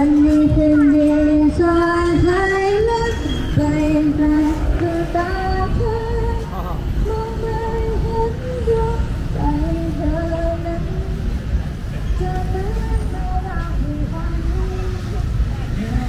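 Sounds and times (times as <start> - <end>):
high voice singing: 0.0 - 11.4, 12.0 - 16.0.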